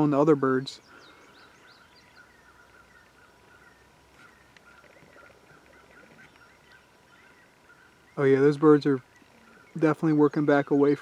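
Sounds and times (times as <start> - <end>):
faint outdoor ambience: 0.0 - 11.0
small bird chirps: 0.6 - 11.0.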